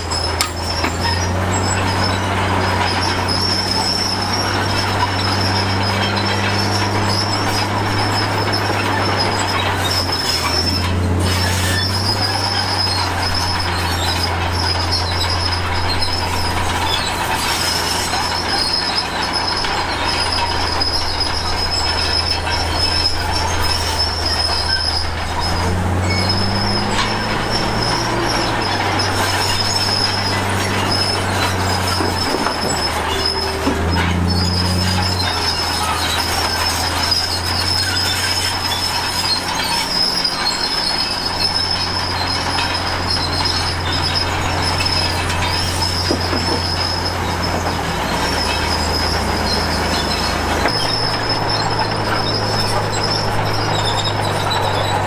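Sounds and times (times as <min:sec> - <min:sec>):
bulldozer diesel engine under load: 0:00.0 - 0:55.0
steel tracks squealing and grinding: 0:00.0 - 0:55.0.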